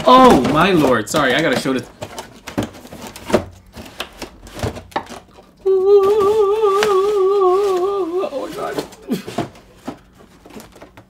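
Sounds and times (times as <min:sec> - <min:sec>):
cardboard box rustling: 0:00.0 - 0:05.4, 0:06.0 - 0:11.0.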